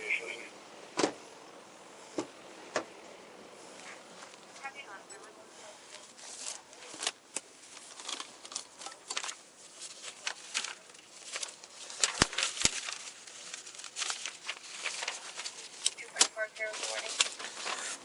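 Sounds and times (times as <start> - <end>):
rustling and crinkling handling noise: 3.5 - 18.0.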